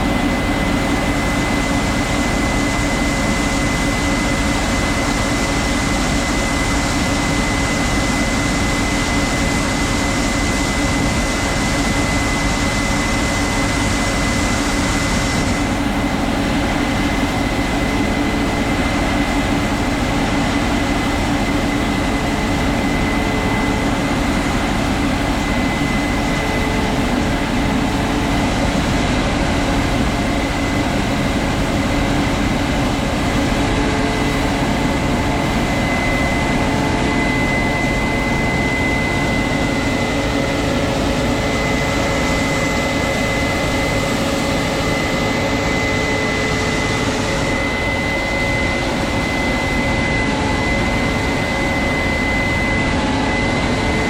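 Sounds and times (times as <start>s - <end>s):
farm machinery engine droning: 0.0s - 54.0s
thin steady whine: 0.0s - 54.0s.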